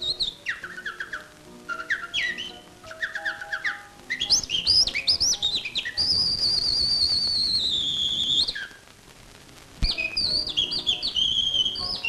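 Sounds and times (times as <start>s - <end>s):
man whistling birdsong imitation: 0.0s - 8.8s, 9.8s - 12.0s.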